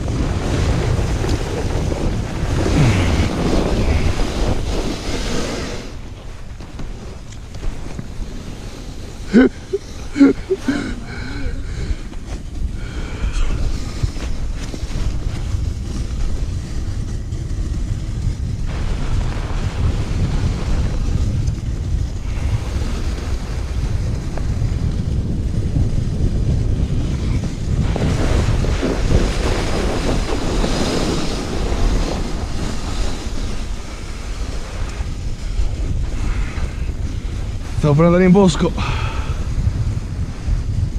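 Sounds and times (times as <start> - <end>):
sled runners scraping snow: 0.0 - 40.9
wind buffeting microphone: 0.0 - 40.9.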